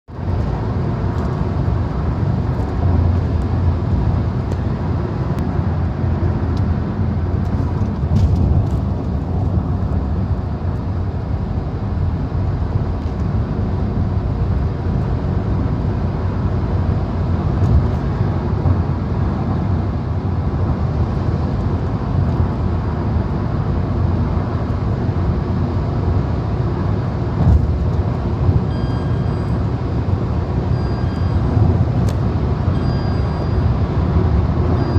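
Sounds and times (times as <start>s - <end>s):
car cabin road rumble: 0.1s - 34.9s.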